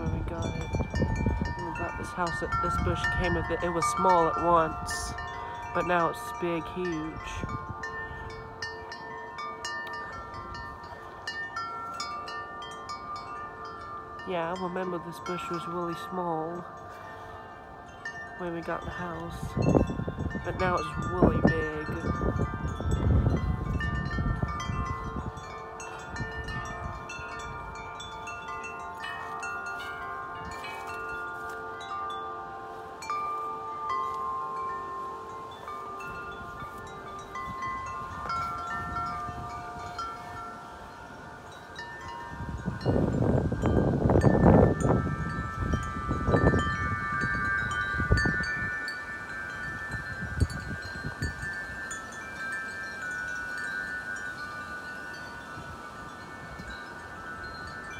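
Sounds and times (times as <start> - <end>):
wind buffeting microphone: 0.0 - 17.0, 17.6 - 57.9
wind chimes ringing: 0.0 - 57.9.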